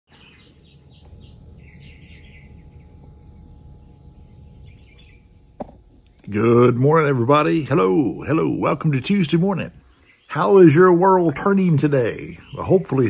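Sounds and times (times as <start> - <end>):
birds chirping: 0.1 - 13.0
high-pitched insect drone: 0.1 - 13.0.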